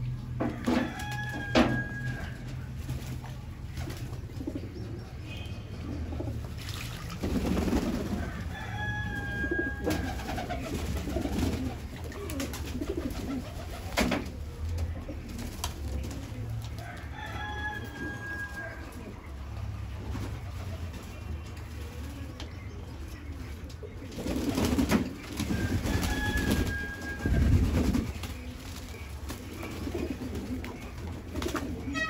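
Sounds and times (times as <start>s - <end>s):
pigeons cooing: 0.0s - 32.0s.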